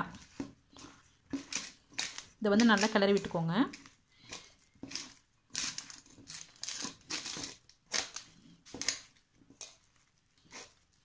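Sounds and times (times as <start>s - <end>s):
hand squishing food in bowl: 0.0s - 11.0s.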